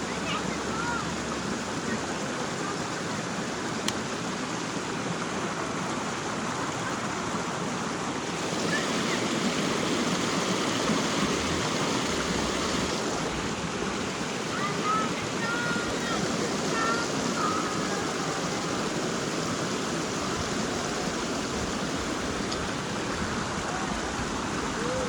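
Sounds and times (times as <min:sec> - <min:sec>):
water running over rocks: 0:00.0 - 0:25.0.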